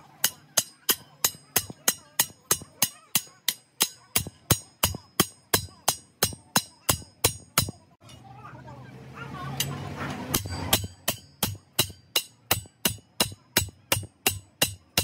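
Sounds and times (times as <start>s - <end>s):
hammer striking steel on anvil: 0.0s - 8.2s, 9.6s - 15.0s.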